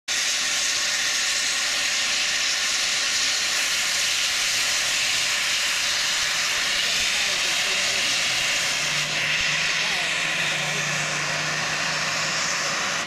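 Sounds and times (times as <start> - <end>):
faint jet engine whine: 0.1 - 13.0
jet engines hissing: 0.1 - 13.0.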